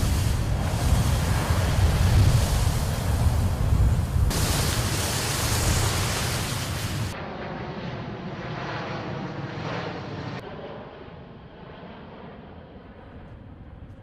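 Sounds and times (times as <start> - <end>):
aircraft and wind roar: 0.0 - 14.0.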